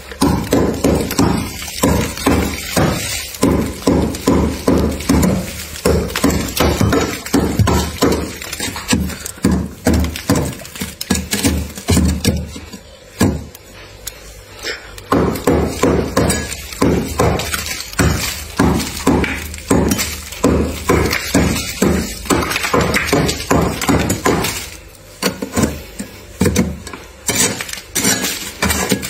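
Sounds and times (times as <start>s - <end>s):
ice chips clinking: 0.0s - 13.1s, 13.9s - 26.2s, 27.2s - 29.0s
knife chopping frost: 0.1s - 29.0s.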